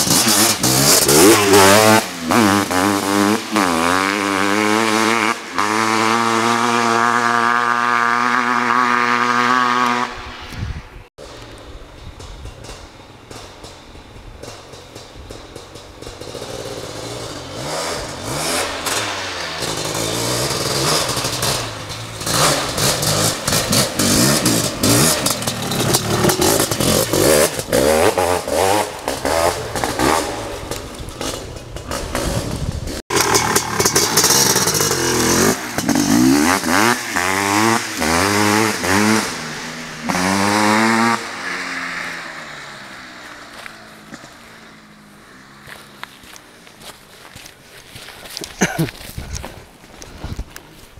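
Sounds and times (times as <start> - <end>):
dirt bike engine revving: 0.0 - 10.5, 14.4 - 47.5.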